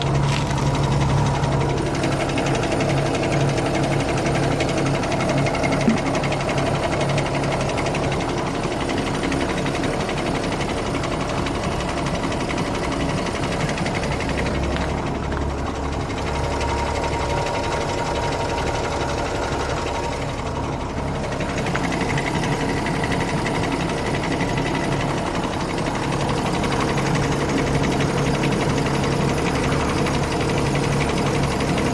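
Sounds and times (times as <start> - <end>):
diesel engine with rapid knock: 0.0 - 31.9.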